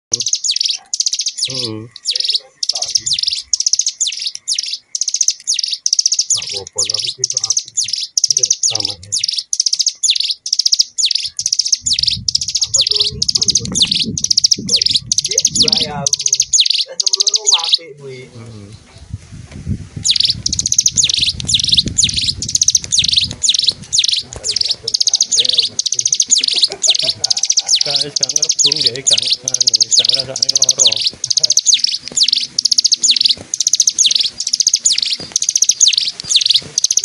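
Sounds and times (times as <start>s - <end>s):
songbird trilling song: 0.1s - 19.0s, 20.0s - 37.0s.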